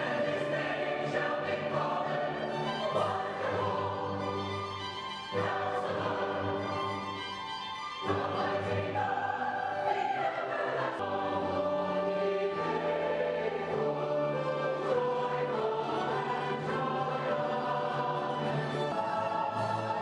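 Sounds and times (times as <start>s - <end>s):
church choir singing chords: 0.0s - 20.0s.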